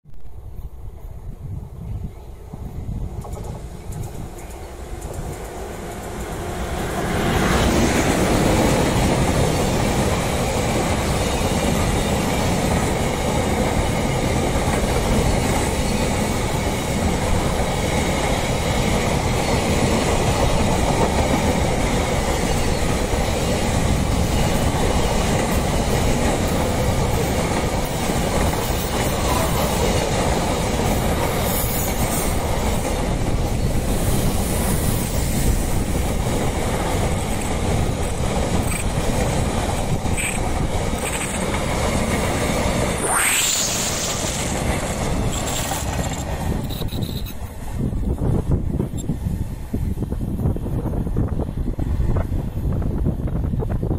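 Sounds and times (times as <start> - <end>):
freight train wheels on rails: 0.2 - 53.9
electric locomotive passing: 0.3 - 53.9.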